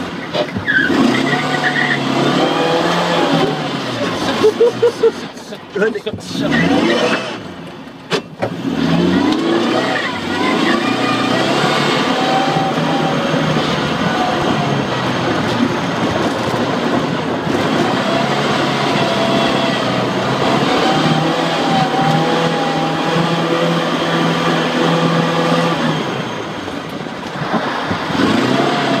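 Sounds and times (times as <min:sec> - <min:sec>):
car engine revving under load: 0:00.0 - 0:29.0.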